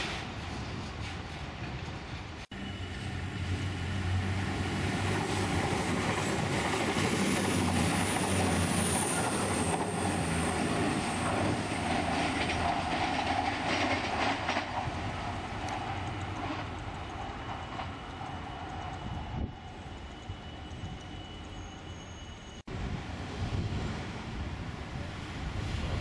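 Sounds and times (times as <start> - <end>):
train engine hum: 0.0 - 26.0
wheel and rail noise: 0.0 - 26.0.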